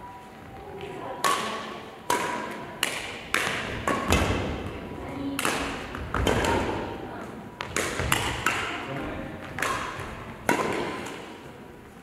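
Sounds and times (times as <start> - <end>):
rackets hitting shuttlecock: 1.2 - 7.0, 7.6 - 11.5.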